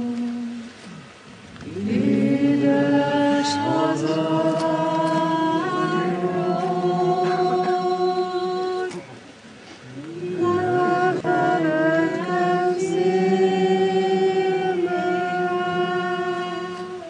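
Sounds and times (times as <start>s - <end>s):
woman singing unaccompanied: 0.0s - 0.8s, 1.7s - 9.2s, 10.1s - 17.0s.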